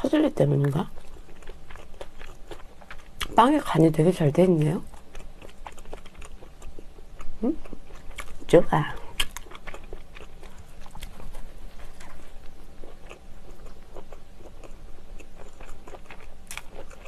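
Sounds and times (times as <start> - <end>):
chewing bread: 0.4 - 17.0.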